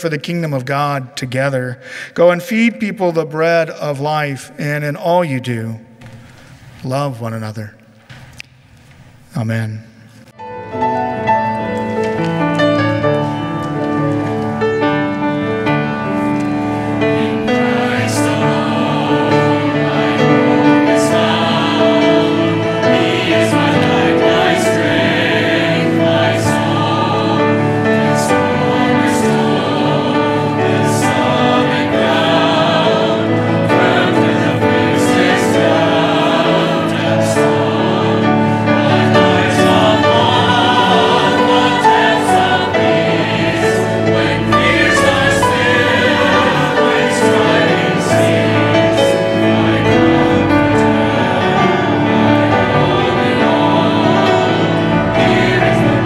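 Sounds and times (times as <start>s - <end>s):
keyboard accompaniment: 10.3s - 56.0s
choir singing: 10.4s - 56.0s.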